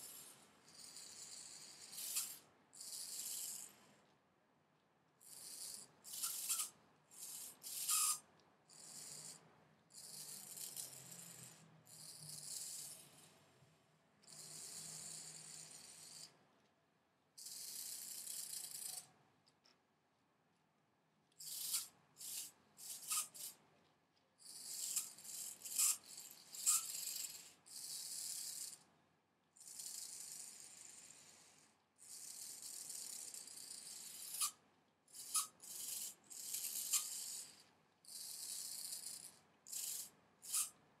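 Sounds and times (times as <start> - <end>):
small toy motors whirring: 0.0 - 4.0, 5.2 - 13.6, 14.2 - 16.4, 17.4 - 19.1, 21.3 - 23.6, 24.4 - 28.9, 29.6 - 40.8.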